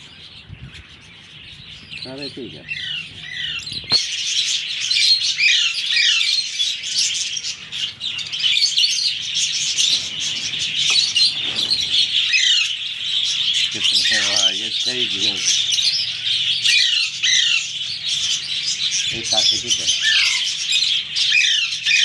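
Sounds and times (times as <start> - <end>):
parakeet chicks chirping: 0.0 - 22.0.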